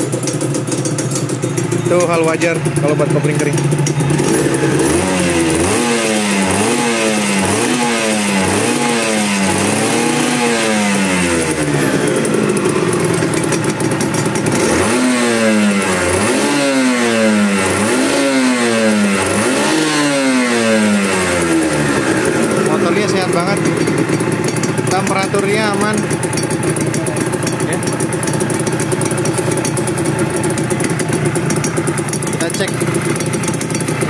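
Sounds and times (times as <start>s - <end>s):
two-stroke engine revving: 0.0s - 34.0s.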